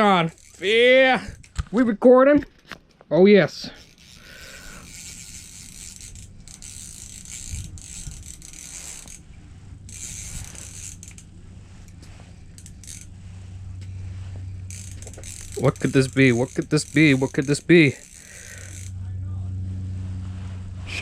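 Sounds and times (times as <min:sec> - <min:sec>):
fishing reel ticking: 0:00.0 - 0:01.6, 0:03.6 - 0:19.1
low steady hum: 0:03.4 - 0:21.0.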